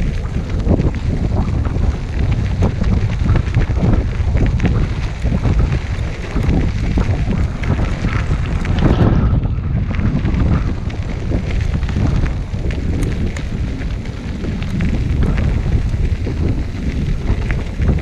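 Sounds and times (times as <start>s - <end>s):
tyres rolling on dirt trail: 0.0s - 18.0s
wind buffeting microphone: 0.0s - 18.0s.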